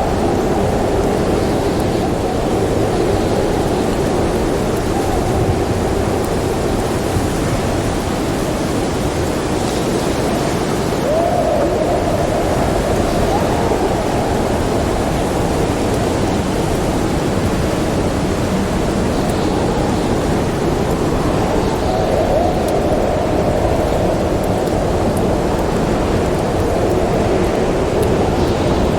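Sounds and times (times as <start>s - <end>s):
snowstorm wind howling: 0.0s - 28.9s
whistling moan of wind: 0.0s - 28.9s.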